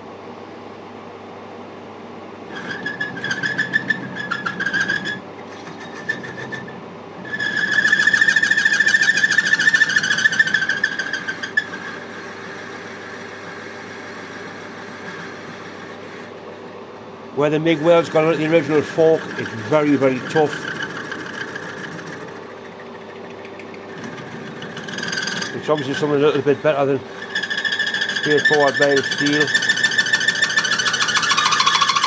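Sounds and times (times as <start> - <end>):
high-pitched pulsing cutting squeal: 2.5 - 16.4, 17.4 - 32.0
lathe humming: 2.5 - 32.0.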